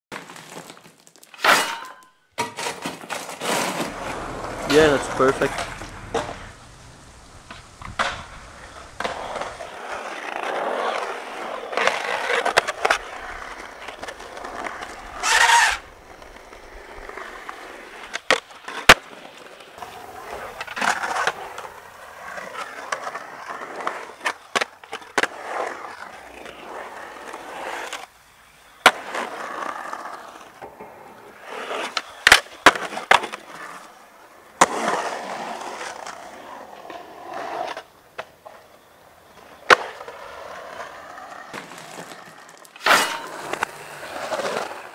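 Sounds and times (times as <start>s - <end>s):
skateboard wheels rolling on concrete: 0.1s - 44.9s
skateboard tail pops and landings: 5.4s - 28.1s, 28.8s - 33.9s, 34.6s - 38.6s, 39.3s - 44.9s.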